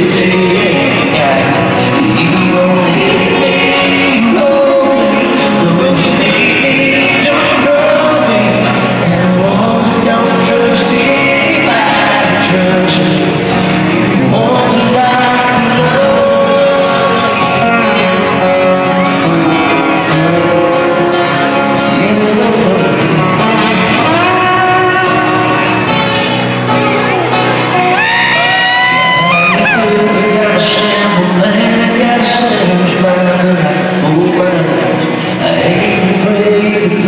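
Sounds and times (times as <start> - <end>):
acoustic guitars playing: 0.0 - 37.0
man singing into a microphone: 0.0 - 37.0.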